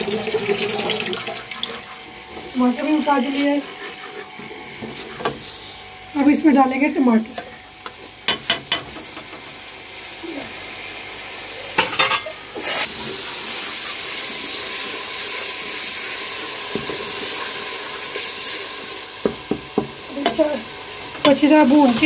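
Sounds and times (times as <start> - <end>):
steady frying sizzle: 0.0 - 22.0.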